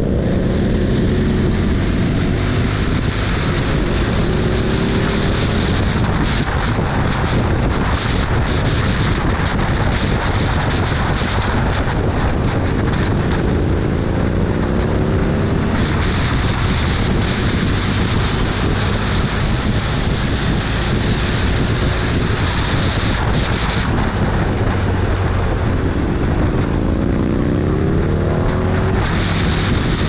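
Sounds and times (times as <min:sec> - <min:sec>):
vehicle engine accelerating: 0:00.0 - 0:30.0
wind buffeting microphone: 0:00.0 - 0:30.0.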